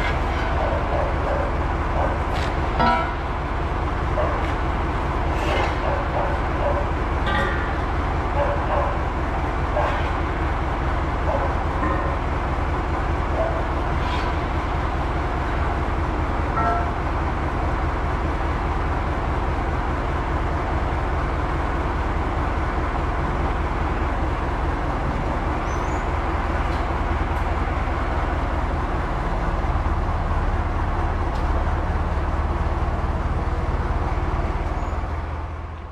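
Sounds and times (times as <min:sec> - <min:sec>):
diesel tractor engine idling: 0:00.0 - 0:35.9.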